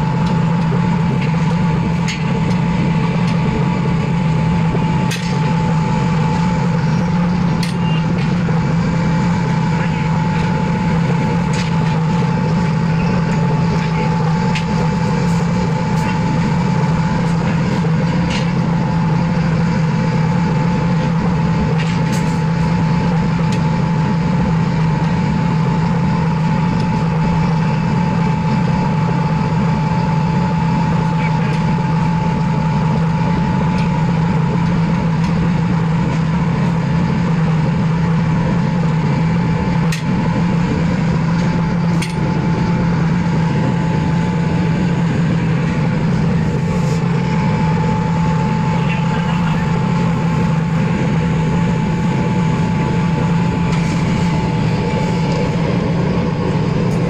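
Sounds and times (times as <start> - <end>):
air blower drone: 0.0 - 57.0.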